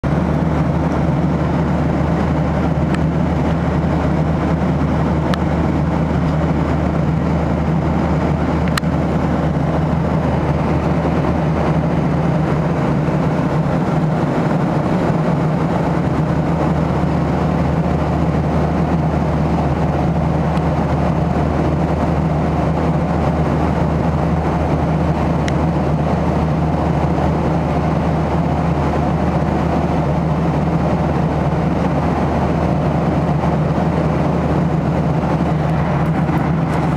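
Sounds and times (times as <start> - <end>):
airliner cabin drone: 0.0 - 36.9.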